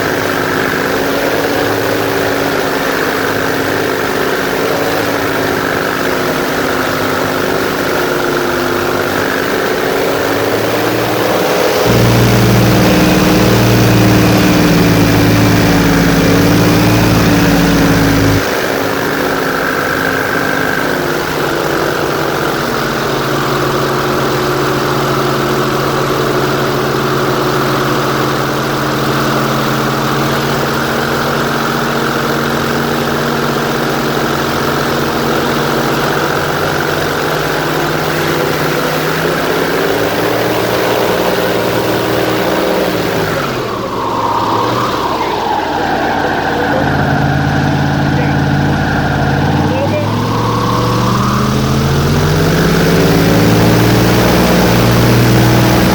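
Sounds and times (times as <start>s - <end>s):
airboat engine and propeller: 0.0s - 45.0s.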